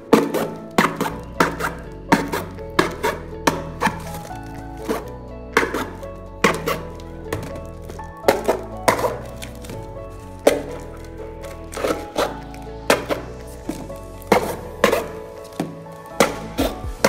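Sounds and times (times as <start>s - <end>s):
background music: 0.0s - 17.0s
metal tool stabbing cardboard: 0.1s - 17.0s.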